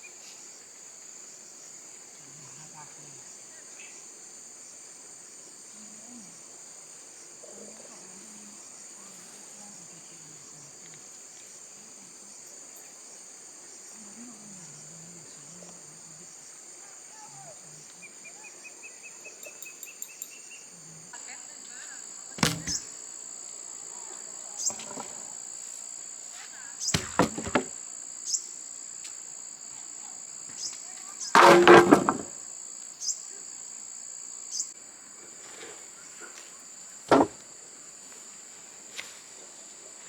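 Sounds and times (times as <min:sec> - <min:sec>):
insect chorus drone: 0:00.0 - 0:31.3, 0:32.3 - 0:40.0.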